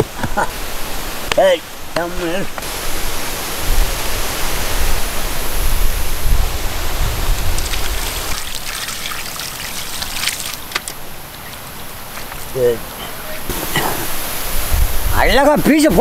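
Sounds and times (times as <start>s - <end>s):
running water splashing: 0.8s - 16.0s.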